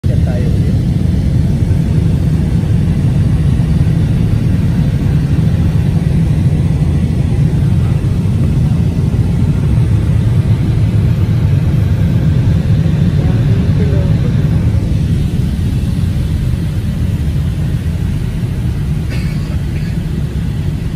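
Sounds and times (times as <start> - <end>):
jet engine rumble: 0.0 - 20.9
rushing airflow: 0.0 - 20.9.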